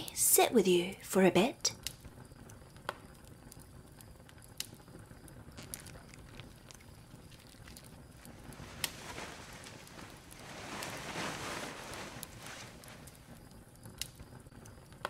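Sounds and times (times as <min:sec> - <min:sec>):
small clicks and crackles: 0:01.7 - 0:15.0.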